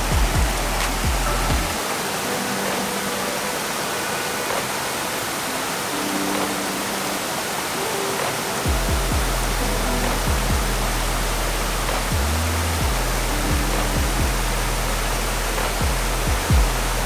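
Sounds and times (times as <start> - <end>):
faint background music: 0.0 - 17.0
waterfall rushing: 0.0 - 17.0.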